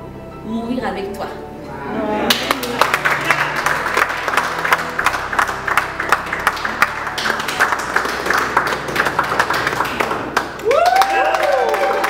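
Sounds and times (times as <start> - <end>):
people clapping: 2.2 - 12.0.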